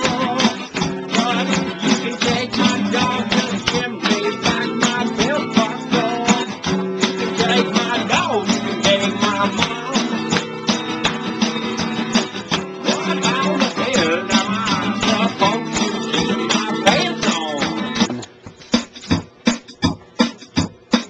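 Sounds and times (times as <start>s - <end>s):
acoustic guitar strummed and plucked: 0.0s - 21.0s.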